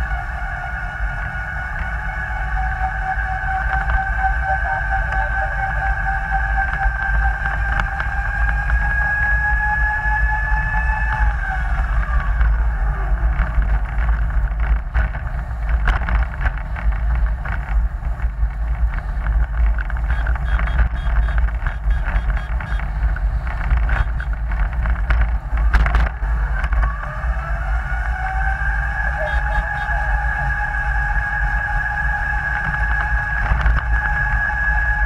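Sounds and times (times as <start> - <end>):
drive whine: 0.0 - 35.0
road and tyre rumble: 0.0 - 35.0.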